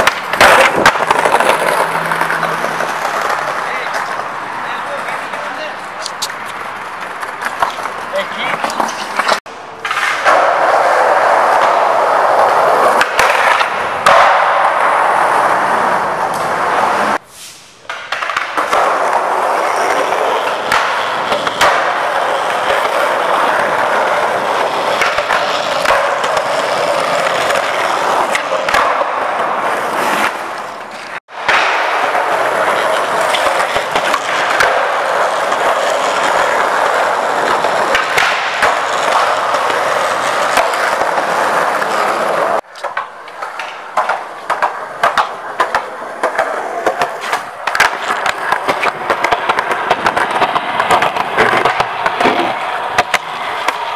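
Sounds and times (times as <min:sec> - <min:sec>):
skateboard clacks: 0:00.0 - 0:17.2, 0:17.8 - 0:53.9
skateboard trucks grinding: 0:00.0 - 0:53.9
skateboard wheels rolling on concrete: 0:00.0 - 0:53.9.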